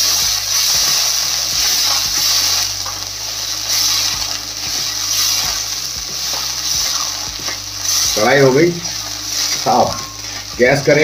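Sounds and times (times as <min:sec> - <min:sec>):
onions sizzling in hot oil: 0:00.0 - 0:11.0
spatula scraping pan: 0:00.0 - 0:11.0.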